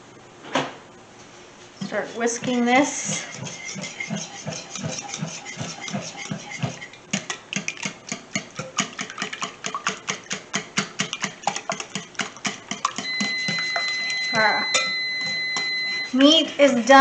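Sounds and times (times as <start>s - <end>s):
whisk beating eggs in a bowl: 1.8s - 17.0s.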